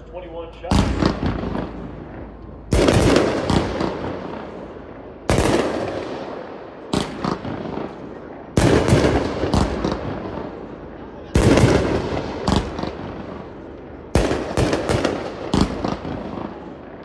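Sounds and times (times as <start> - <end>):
fireworks reports: 0.0 - 17.0.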